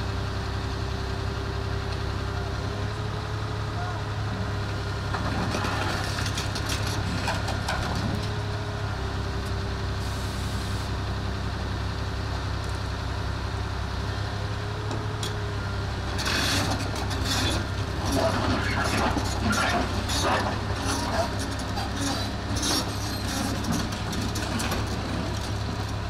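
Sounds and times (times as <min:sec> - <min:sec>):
excavator diesel engine working: 0:00.0 - 0:26.0.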